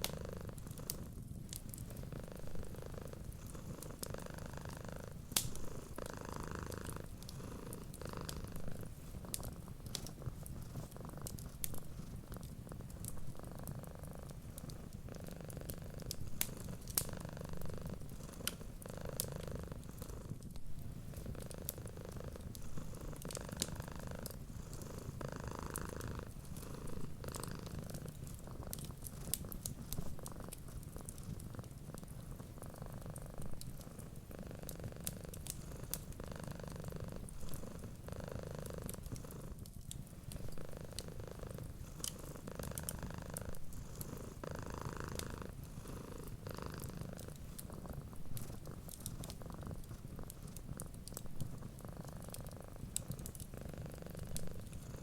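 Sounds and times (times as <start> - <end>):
cat purring: 0.0 - 55.0
wood fire crackling: 0.0 - 55.0.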